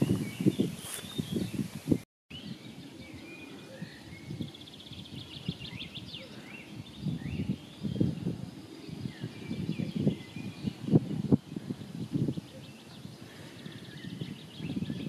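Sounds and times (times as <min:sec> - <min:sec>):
birds singing and calling: 0:00.0 - 0:15.0.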